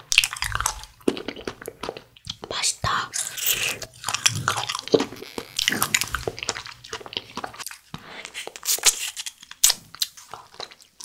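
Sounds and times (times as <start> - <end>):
biting and chewing candy: 0.0 - 11.0.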